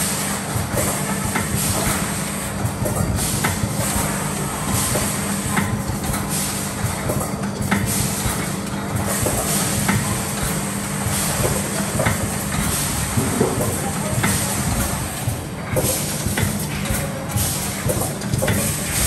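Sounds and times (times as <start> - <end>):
machine hum with clicks: 0.0 - 19.0.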